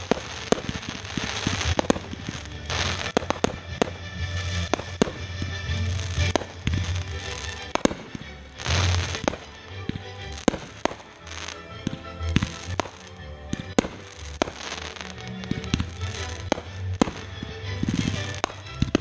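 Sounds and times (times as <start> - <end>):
fireworks bangs and pops: 0.0 - 19.0
fireworks crackling: 0.0 - 19.0.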